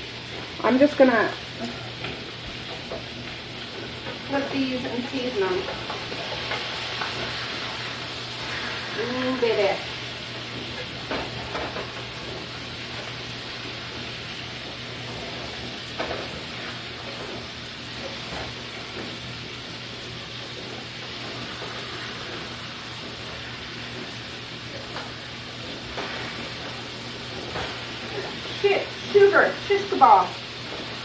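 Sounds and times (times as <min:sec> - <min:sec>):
patties sizzling in a frying pan: 0:00.0 - 0:31.0.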